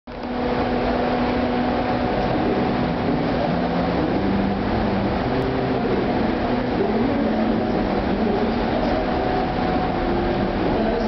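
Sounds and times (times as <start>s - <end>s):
humming tones shifting in pitch: 0.1s - 11.0s
metro train rumbling in tunnel: 0.1s - 11.0s.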